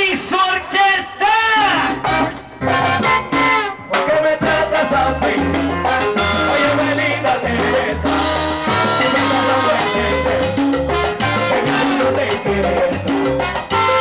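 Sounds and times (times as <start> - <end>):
man singing: 0.0 - 2.2, 3.9 - 14.0
salsa band playing live: 0.0 - 14.0
congas: 1.5 - 14.0
trombone: 1.7 - 14.0.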